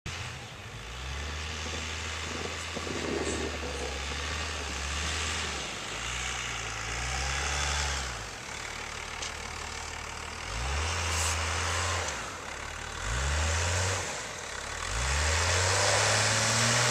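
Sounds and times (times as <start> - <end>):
engine humming: 0.1 - 16.9.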